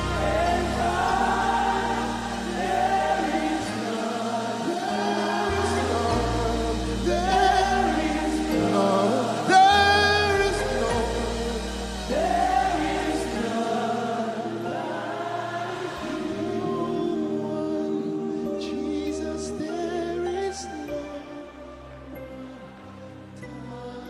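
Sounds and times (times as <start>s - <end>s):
choir and congregation singing: 0.0s - 24.0s
keyboard and bass chords: 0.0s - 24.0s.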